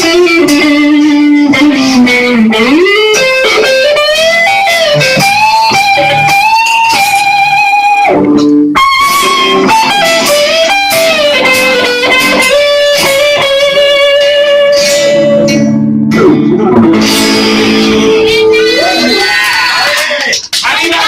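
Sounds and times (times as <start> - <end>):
band accompaniment: 0.0 - 19.6
electric guitar bending notes: 0.0 - 19.6.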